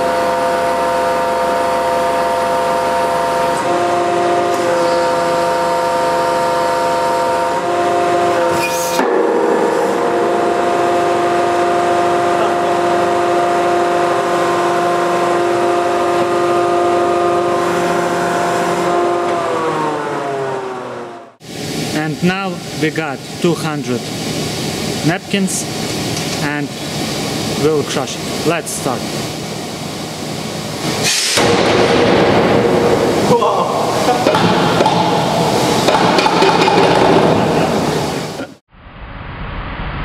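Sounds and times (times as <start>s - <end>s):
hydraulic pump whining: 0.0s - 22.0s, 22.6s - 38.6s.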